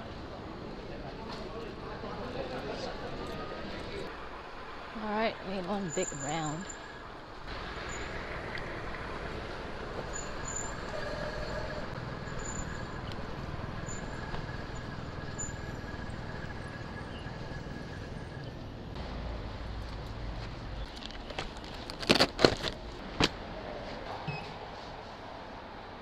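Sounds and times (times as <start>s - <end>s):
traffic and road noise: 0.0s - 26.0s.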